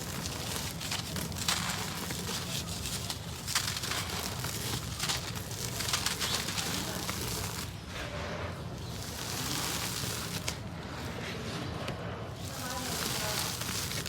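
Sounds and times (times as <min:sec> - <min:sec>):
cement grains crackling: 0:00.0 - 0:14.0.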